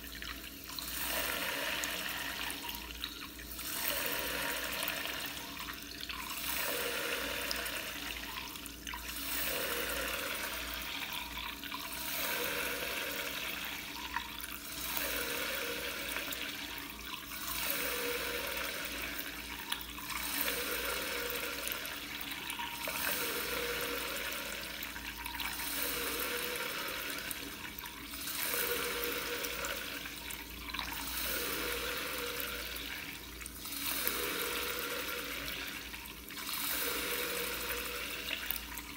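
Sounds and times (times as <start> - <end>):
tap water running into sink: 0.0 - 38.9.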